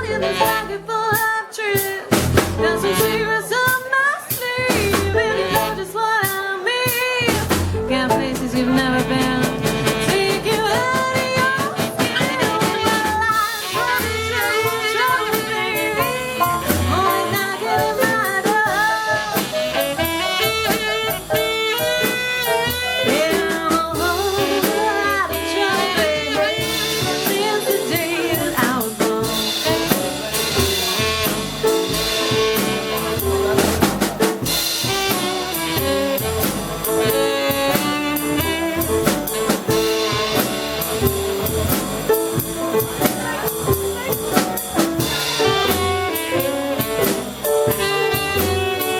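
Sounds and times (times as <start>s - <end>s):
brass instrument melody: 0.0s - 0.8s, 2.6s - 3.4s, 5.1s - 5.9s, 7.4s - 48.9s
drum kit and rhythm section: 0.0s - 48.9s.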